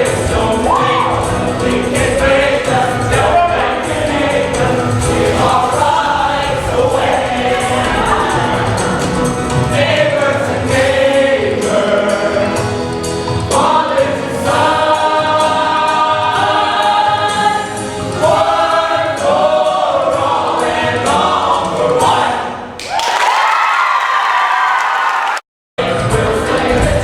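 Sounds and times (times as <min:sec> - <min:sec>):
ensemble singing: 0:00.0 - 0:22.7.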